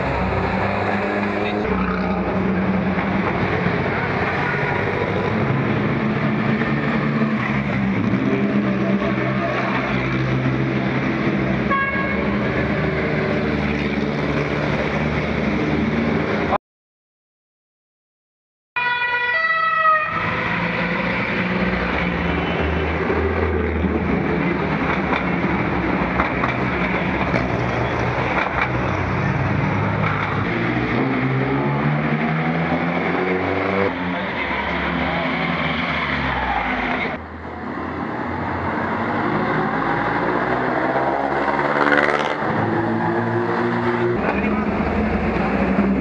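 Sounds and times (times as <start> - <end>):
traffic din: 0.0 - 16.6, 18.8 - 46.0.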